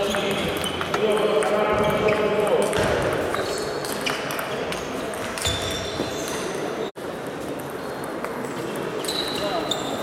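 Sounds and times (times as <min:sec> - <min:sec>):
large hall noise: 0:00.0 - 0:10.0.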